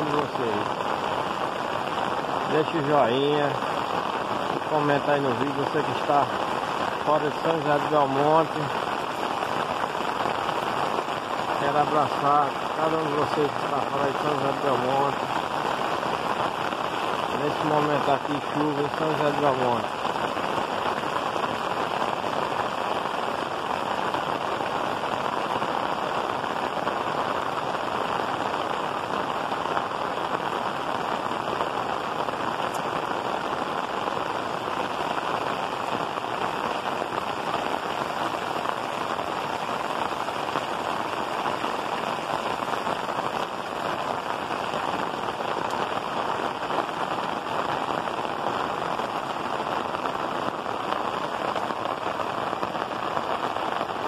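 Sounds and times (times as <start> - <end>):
heavy rain on tiled roofs: 0.0 - 54.0.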